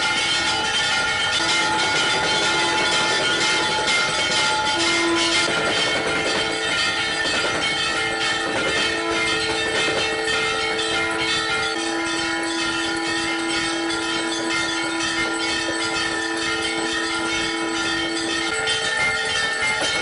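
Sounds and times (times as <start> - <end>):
brass bells clanging rapidly: 0.0 - 20.0
long steady tone: 0.0 - 20.0.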